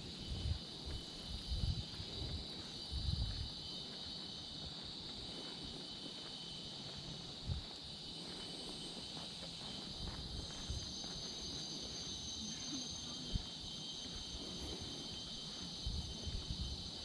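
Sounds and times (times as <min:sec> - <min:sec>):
chorus of forest insects: 0:00.0 - 0:17.0.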